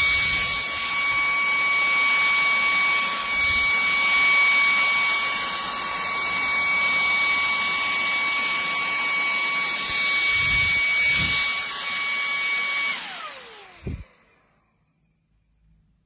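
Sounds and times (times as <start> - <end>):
handheld vacuum whining: 0.0 - 15.6.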